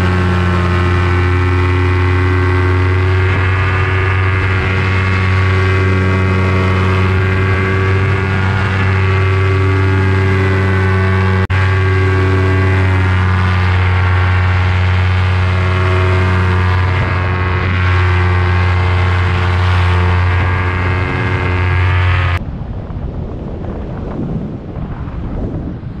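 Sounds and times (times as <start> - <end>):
paramotor engine drone: 0.0 - 22.7
wind rushing over microphone: 0.0 - 26.0.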